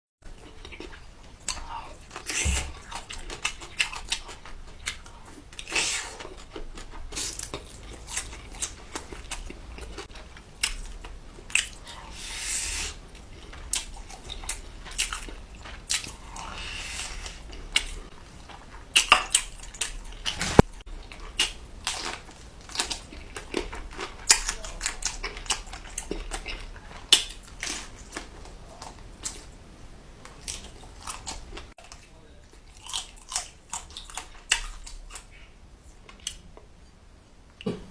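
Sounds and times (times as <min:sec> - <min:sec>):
person chewing food: 0:00.3 - 0:29.5, 0:30.2 - 0:36.7.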